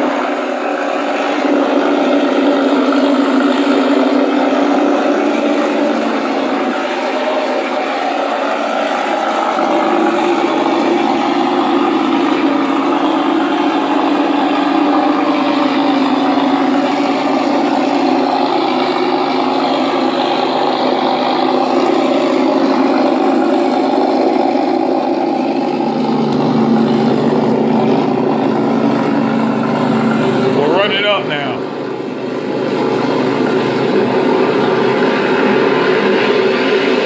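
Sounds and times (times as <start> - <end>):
simulated warbird engine sound: 0.0 - 37.0.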